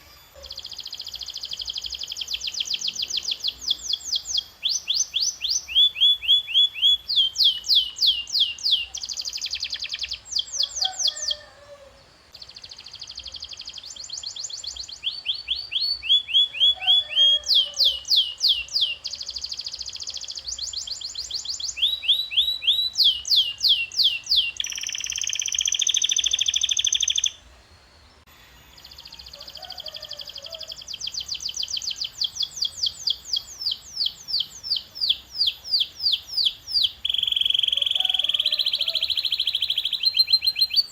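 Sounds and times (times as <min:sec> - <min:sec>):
canary singing: 0:00.0 - 0:27.4, 0:28.2 - 0:40.9.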